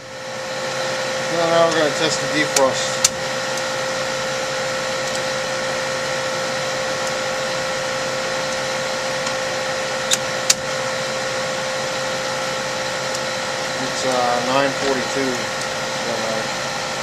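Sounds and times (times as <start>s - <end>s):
refrigeration equipment humming: 0.0s - 17.0s.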